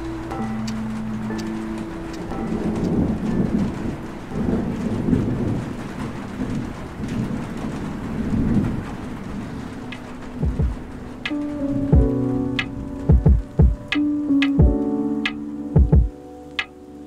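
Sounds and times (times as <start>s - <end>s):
thunder rumbling: 0.0s - 16.2s
steady rain: 0.0s - 17.0s.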